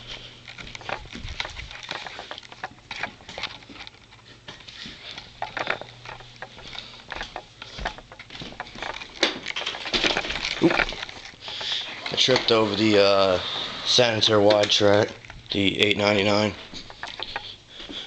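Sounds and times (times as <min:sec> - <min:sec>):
handling knocks and rustling: 0:00.0 - 0:18.0.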